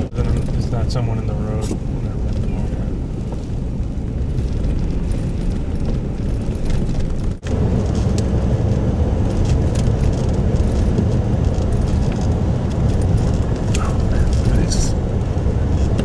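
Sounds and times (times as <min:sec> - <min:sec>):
truck engine and road drone: 0:00.0 - 0:16.0.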